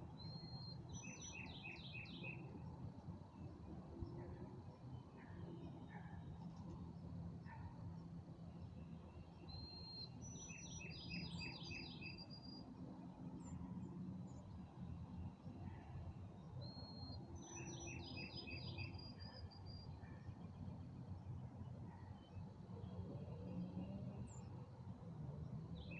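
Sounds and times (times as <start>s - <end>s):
songbird singing: 0.0s - 24.8s
faint low background noise: 0.0s - 25.9s.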